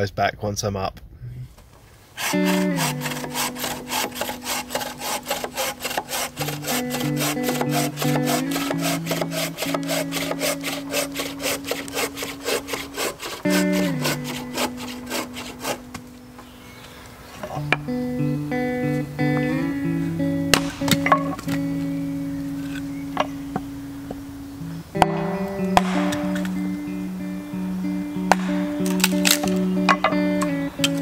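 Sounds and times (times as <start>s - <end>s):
instrumental folk music: 2.2s - 31.0s.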